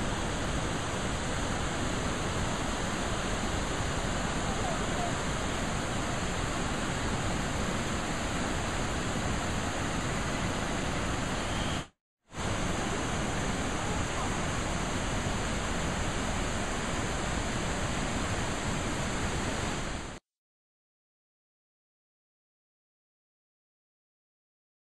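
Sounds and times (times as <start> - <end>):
river rushing over rocks: 0.0 - 20.2.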